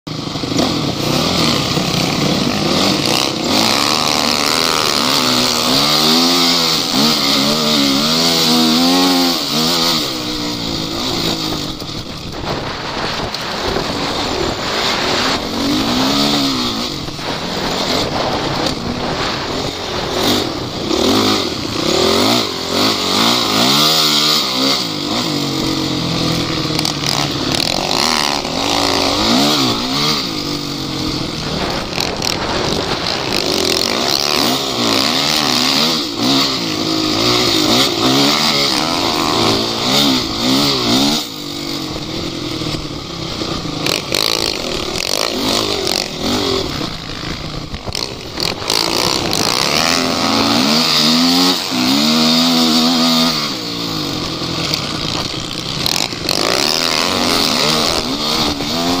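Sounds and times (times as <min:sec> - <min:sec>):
vehicle engine revving: 0:00.1 - 0:59.0.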